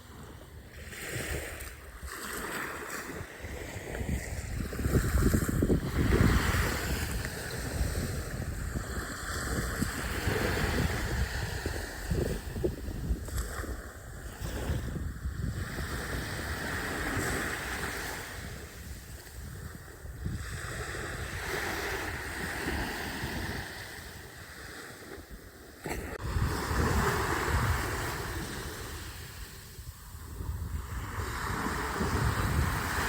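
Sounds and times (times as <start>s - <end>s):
waves washing ashore: 0.0s - 33.0s
wind rumbling on microphone: 0.0s - 33.0s.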